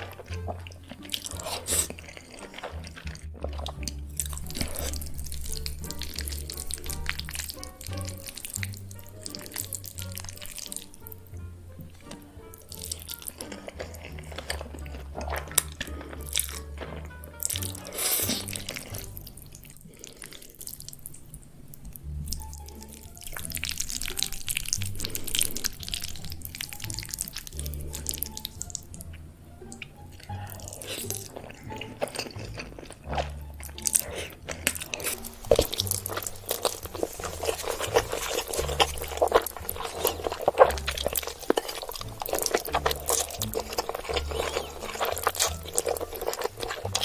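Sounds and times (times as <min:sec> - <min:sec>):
background music with bass: 0:00.0 - 0:20.0, 0:21.4 - 0:47.0
chewing and slurping: 0:00.0 - 0:47.0
mouth clicks and smacks: 0:00.0 - 0:47.0.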